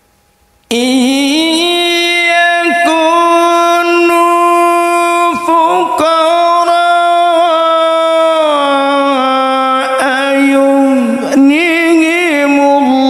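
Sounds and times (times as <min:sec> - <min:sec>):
man reciting melodically: 0:00.7 - 0:13.0.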